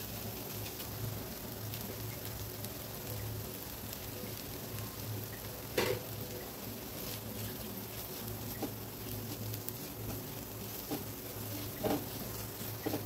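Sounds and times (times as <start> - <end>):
noodles frying in oil: 0.0 - 13.0.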